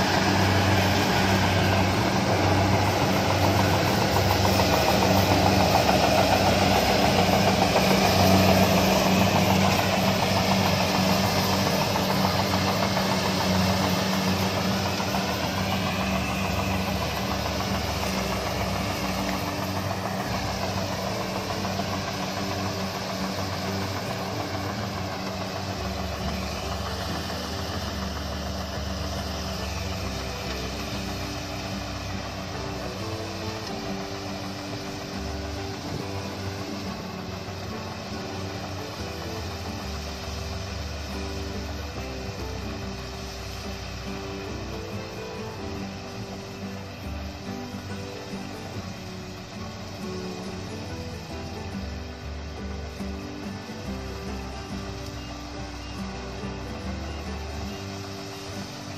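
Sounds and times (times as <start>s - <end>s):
combine harvester engine drone: 0.0s - 58.9s.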